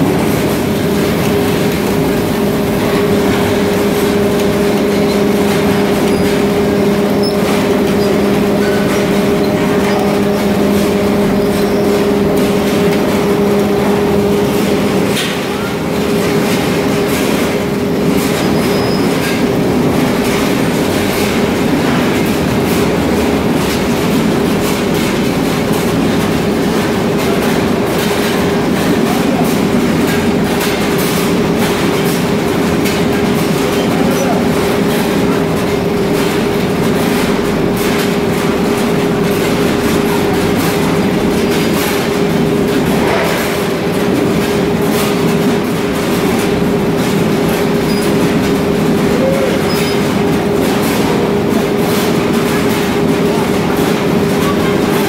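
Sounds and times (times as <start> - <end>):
machine humming: 0.0 - 55.0.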